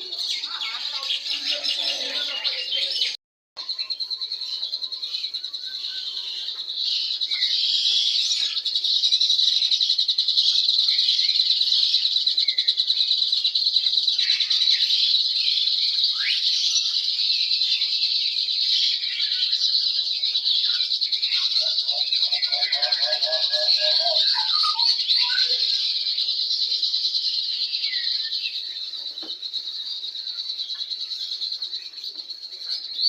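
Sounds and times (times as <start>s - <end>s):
small birds chirping and twittering: 0.0s - 33.0s.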